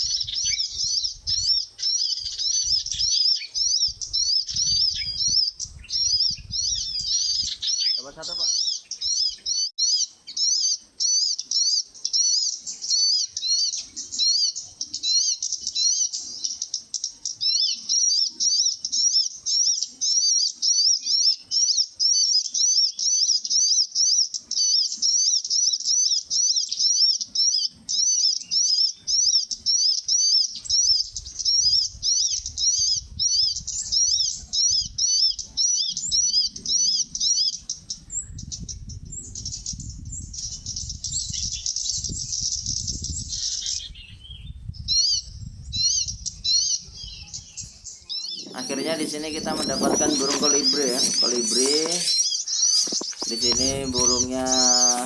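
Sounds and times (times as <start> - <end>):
small bird chirping fast: 0.0 - 55.0.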